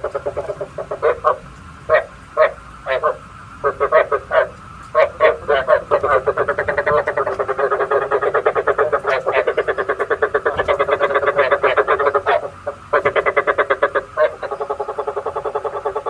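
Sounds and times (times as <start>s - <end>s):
frog croaking: 0.0s - 16.0s.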